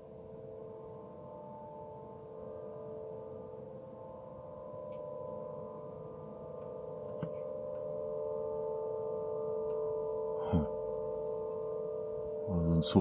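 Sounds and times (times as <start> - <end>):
droning chord from the sky: 0.0 - 13.0.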